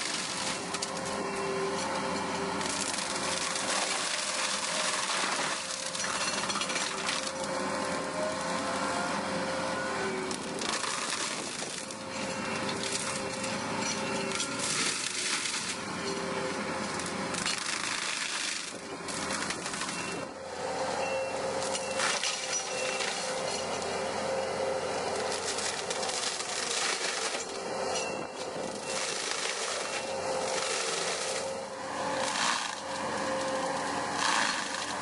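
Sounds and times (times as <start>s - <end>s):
wood splintering and crushing: 0.0s - 8.6s, 10.3s - 20.3s, 21.6s - 35.0s.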